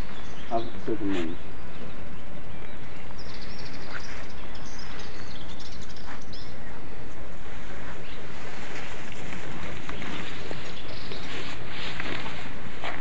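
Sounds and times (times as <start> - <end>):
small birds chirping: 0.0 - 13.0
wind rumbling on microphone: 0.0 - 13.0.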